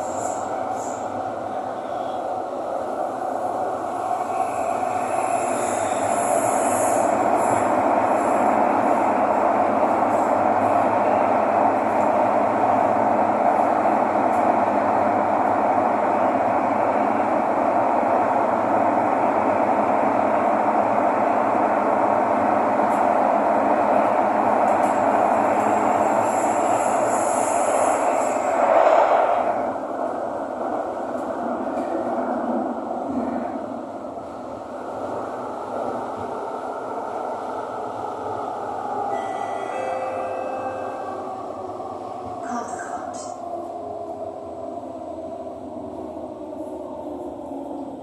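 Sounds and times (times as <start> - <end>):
train wheels rumbling on rail: 0.0 - 39.8.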